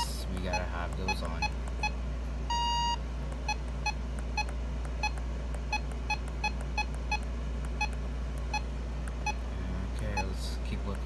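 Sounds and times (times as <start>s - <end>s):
keypad beeps: 0.0s - 10.4s.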